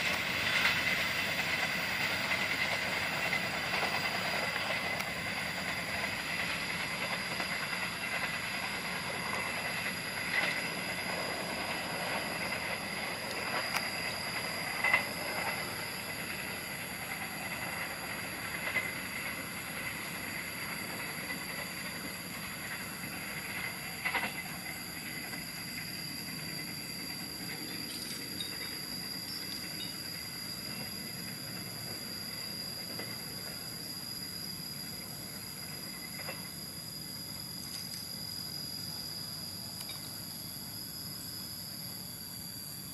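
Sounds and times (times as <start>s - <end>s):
high-pitched insect drone: 0.0s - 42.9s
train wheels rumbling on rail: 0.0s - 42.9s.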